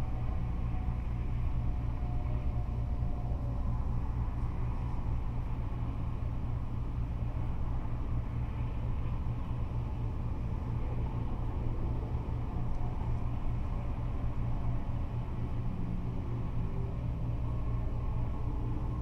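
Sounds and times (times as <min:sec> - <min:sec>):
freeway traffic rumble: 0:00.0 - 0:19.0.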